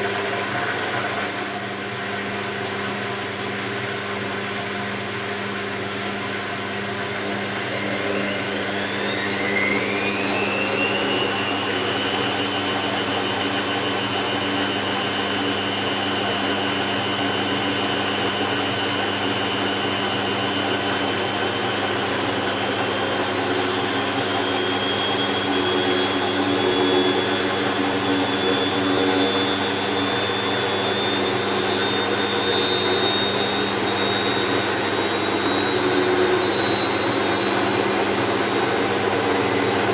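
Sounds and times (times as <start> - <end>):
washing machine motor whining: 6.8 - 39.9.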